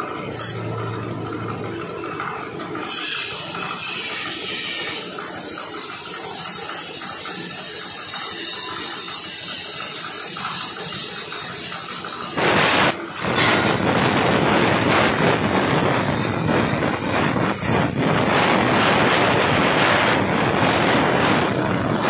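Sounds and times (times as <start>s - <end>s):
workshop machinery: 0.0s - 22.0s
plasma torch cutting steel: 0.1s - 0.8s, 2.7s - 22.0s.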